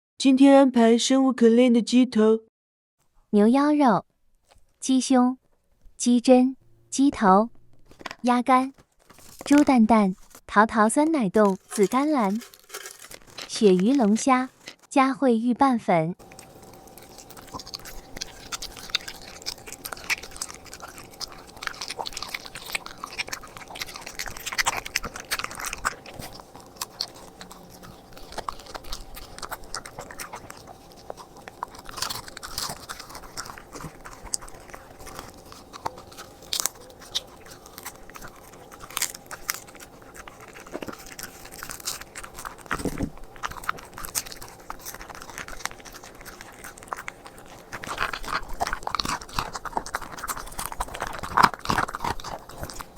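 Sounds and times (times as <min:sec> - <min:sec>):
dog chewing and crunching: 0:07.8 - 0:10.4, 0:11.4 - 0:14.9, 0:16.2 - 0:52.9.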